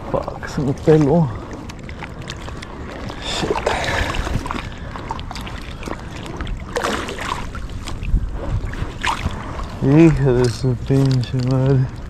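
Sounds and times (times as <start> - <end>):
constant low rumble: 0.0 - 12.0
water sloshing and splashing: 0.0 - 12.0.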